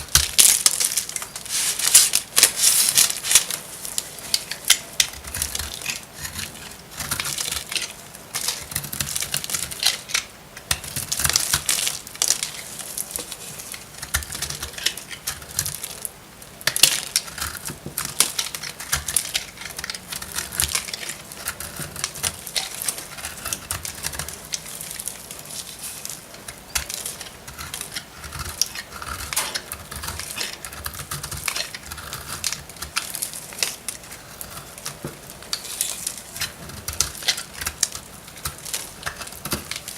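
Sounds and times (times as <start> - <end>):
soap crunching and crackling: 0.0 - 39.9.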